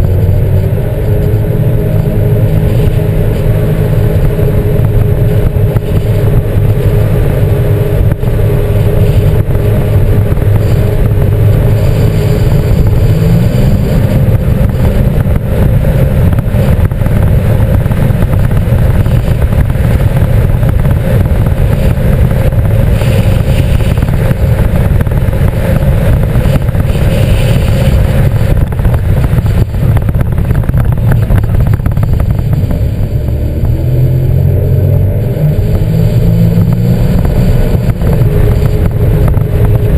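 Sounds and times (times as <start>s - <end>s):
watercraft engine drone: 0.0s - 39.9s.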